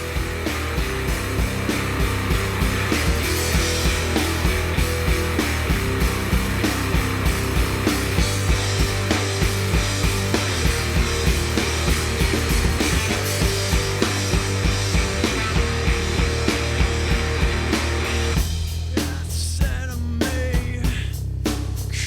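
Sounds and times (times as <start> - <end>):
rock band playing: 0.0 - 19.8.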